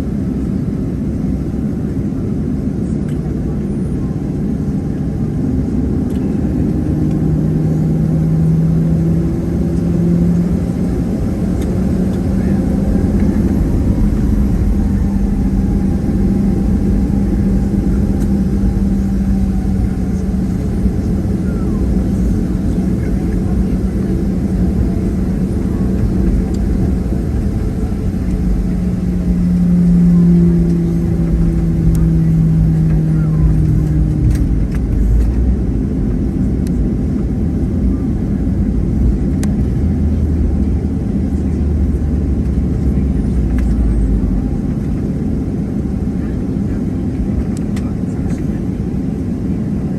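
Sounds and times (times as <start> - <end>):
droning hum: 0.0 - 49.9
jet engines low rumble: 0.0 - 49.9.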